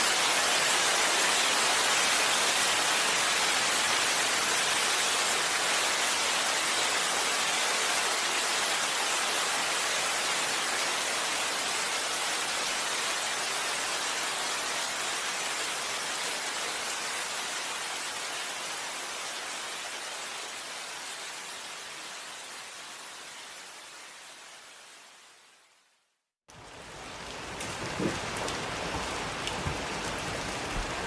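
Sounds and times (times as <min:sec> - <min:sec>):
heavy rain hissing: 0:00.0 - 0:25.6.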